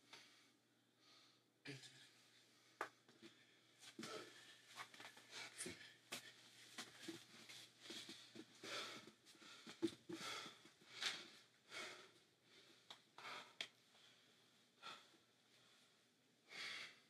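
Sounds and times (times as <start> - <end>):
man breathing heavily: 2.4 - 15.9, 16.5 - 17.0.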